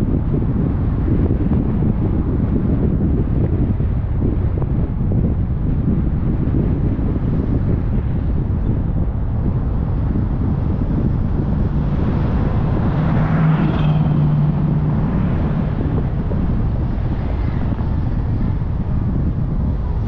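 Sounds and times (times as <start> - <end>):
car driving rumble: 0.0 - 20.0
passing vehicle engine hum: 0.0 - 20.0
wind buffeting microphone: 0.0 - 20.0.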